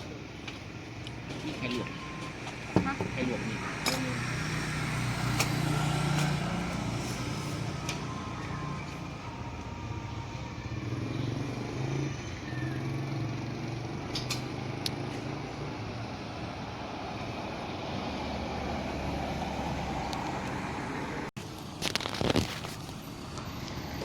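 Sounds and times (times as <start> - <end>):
vehicle engines passing: 0.0 - 24.0.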